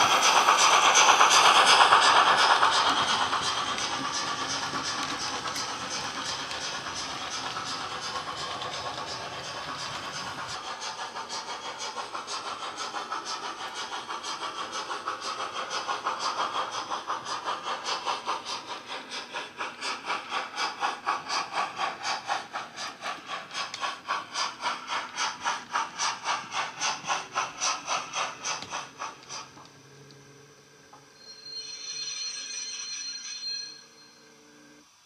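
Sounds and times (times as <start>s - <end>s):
steam locomotive chuffs from speaker: 0.0s - 34.3s.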